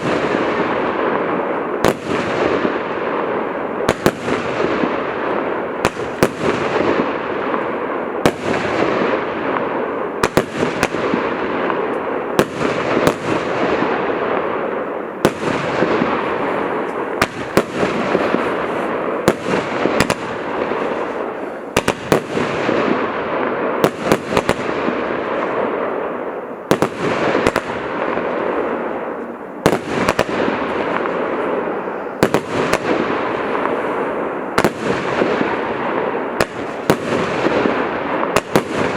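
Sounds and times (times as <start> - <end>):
firework bangs: 0.0 - 38.9
firework crackling: 0.0 - 38.9.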